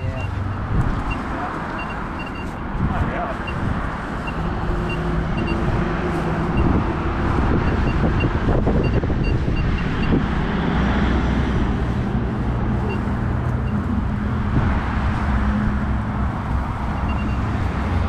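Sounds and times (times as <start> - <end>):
cars passing: 0.0 - 18.0
road traffic rumble: 0.0 - 18.0.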